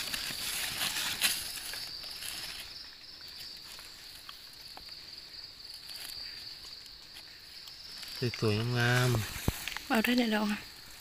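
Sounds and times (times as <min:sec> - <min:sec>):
crickets chirring: 0:00.0 - 0:11.0
rustling of dry leaf litter: 0:00.0 - 0:11.0.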